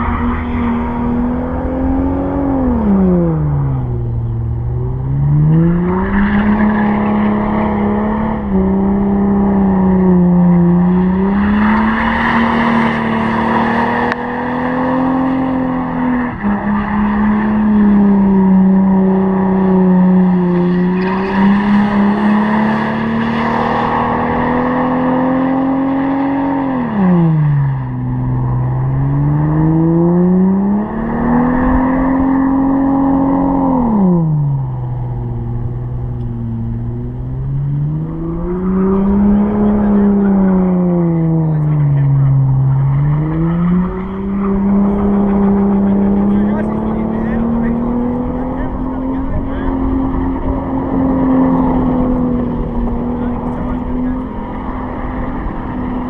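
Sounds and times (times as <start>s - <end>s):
tyres screeching on asphalt: 0.0s - 3.7s, 5.0s - 56.0s
car engine revving high: 0.0s - 56.0s.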